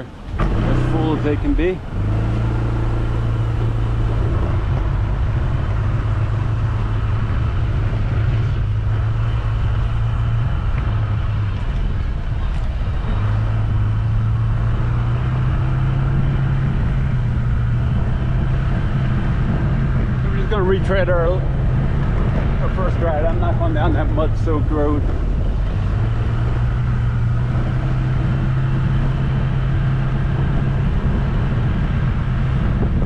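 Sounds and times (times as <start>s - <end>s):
car engine hum: 0.0s - 33.0s
road and tyre noise: 0.0s - 33.0s.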